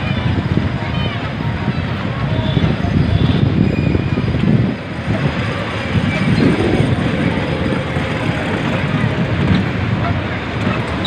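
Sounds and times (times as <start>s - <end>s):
small train rumbling and rattling: 0.0s - 11.0s.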